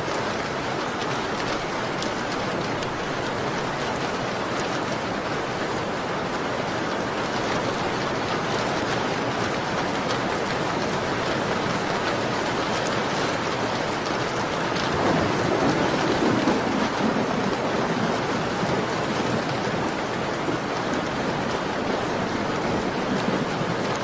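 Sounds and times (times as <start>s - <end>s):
rain pattering on a window: 0.0s - 24.0s.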